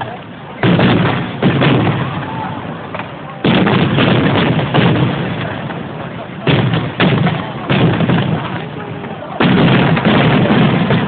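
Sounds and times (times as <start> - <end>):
firework shells bursting: 0.6 - 11.0.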